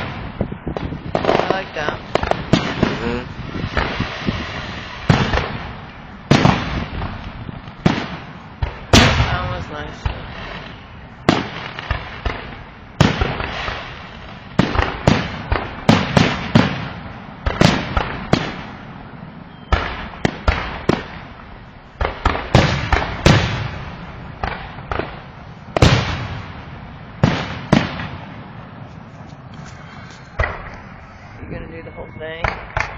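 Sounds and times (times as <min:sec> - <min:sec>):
fireworks exploding: 0:00.0 - 0:31.4, 0:32.4 - 0:32.9.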